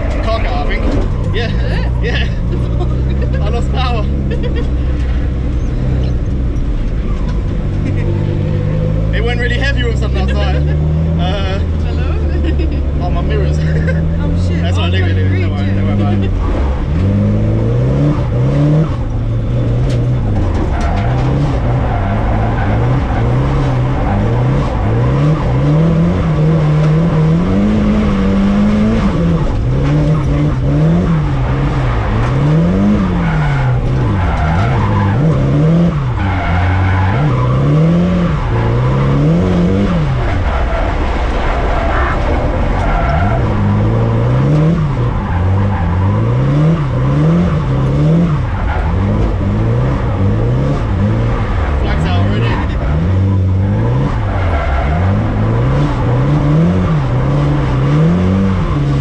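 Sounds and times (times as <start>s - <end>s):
car engine revving: 0.0s - 59.0s
tyres skidding and squealing: 0.0s - 59.0s.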